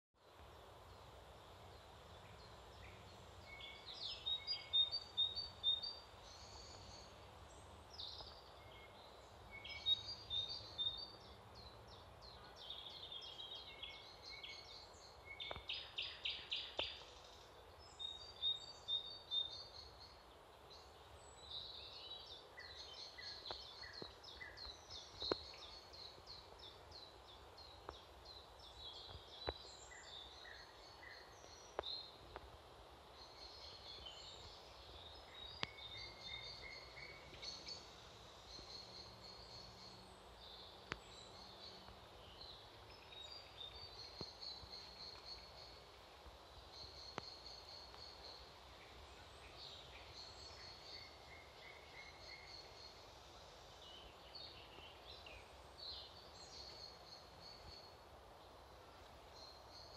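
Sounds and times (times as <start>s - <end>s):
faint background hiss: 0.2s - 59.9s
songbirds chirping: 0.2s - 59.9s.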